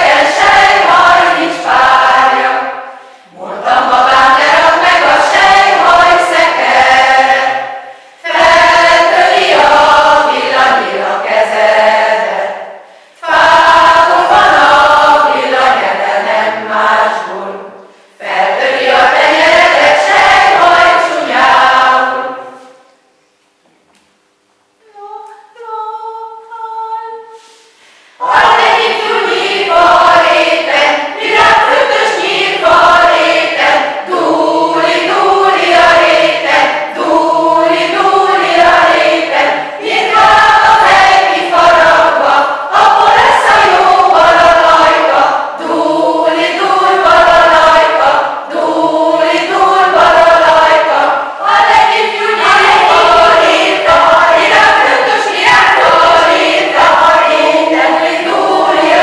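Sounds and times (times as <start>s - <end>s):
choir singing a cappella: 0.0s - 23.0s, 24.9s - 59.0s.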